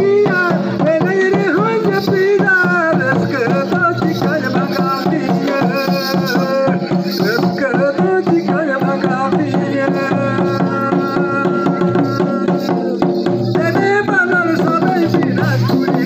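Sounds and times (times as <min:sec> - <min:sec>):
hand drums playing: 0:00.0 - 0:16.0
person singing: 0:00.0 - 0:16.0.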